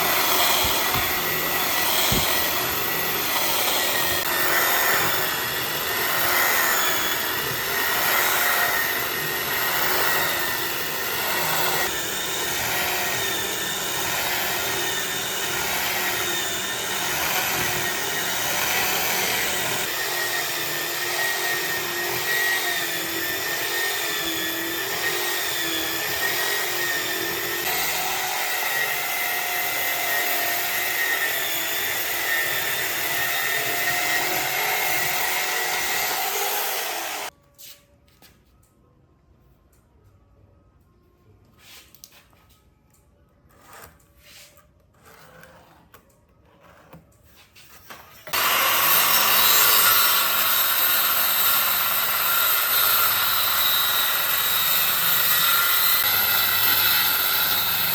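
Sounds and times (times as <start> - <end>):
power tool whining on wood: 0.0 - 37.3, 48.3 - 57.9.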